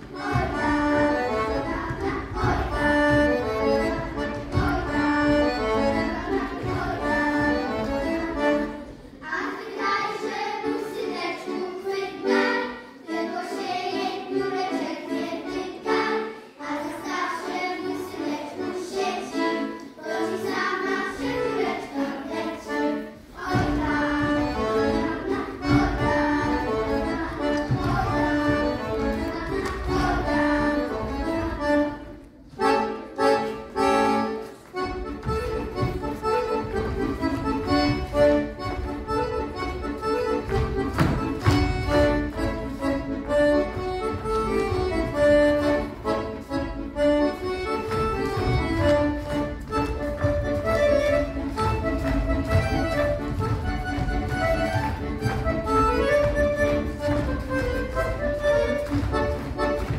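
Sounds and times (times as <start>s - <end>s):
folk dance music with accordion: 0.0s - 59.9s.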